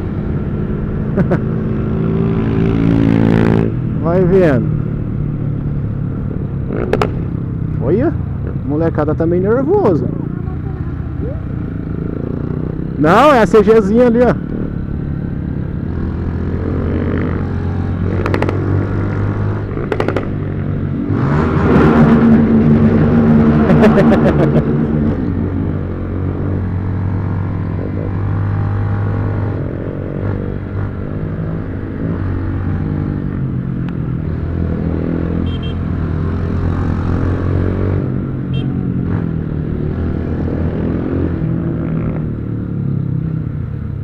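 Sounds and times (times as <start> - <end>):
motorcycle engine revving: 0.0 - 8.8, 9.4 - 43.5.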